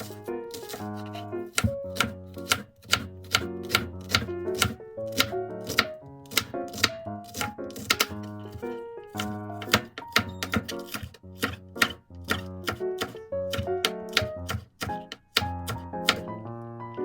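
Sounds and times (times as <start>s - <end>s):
knife chopping on cutting board: 0.0s - 16.3s
light background music: 0.0s - 17.0s.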